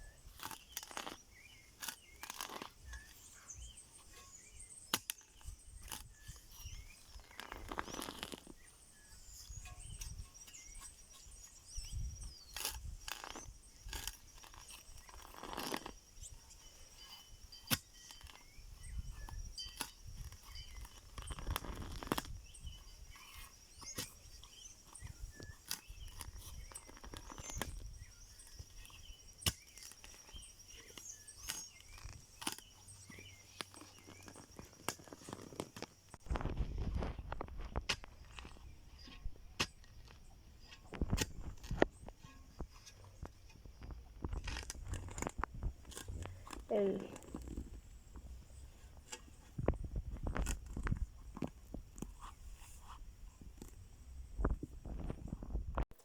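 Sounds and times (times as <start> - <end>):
high insect trill: 0.0 - 51.4.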